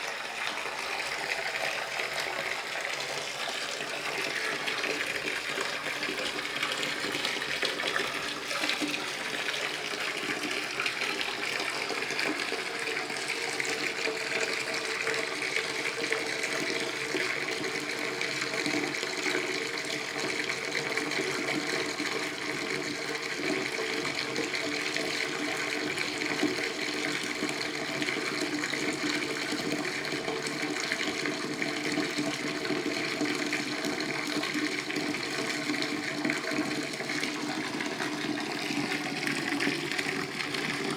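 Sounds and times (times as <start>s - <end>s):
tap water filling bathtub: 0.0s - 40.9s.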